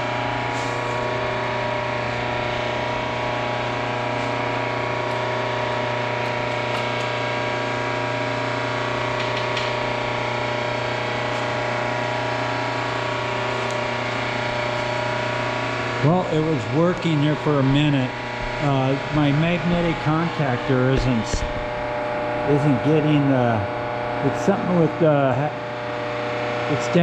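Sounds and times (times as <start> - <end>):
lathe electric motor humming: 0.0 - 27.0.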